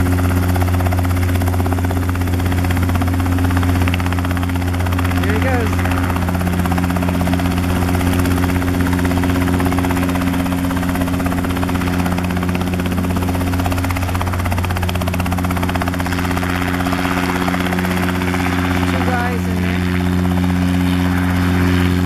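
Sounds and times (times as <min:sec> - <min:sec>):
helicopter engine drone: 0:00.0 - 0:22.0
helicopter rotor chop: 0:00.0 - 0:22.0.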